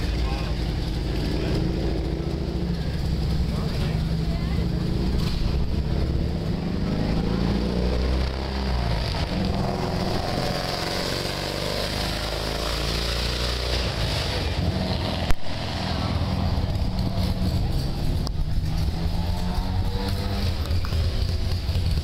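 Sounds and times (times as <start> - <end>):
motorcycle engine humming: 0.0 - 22.0.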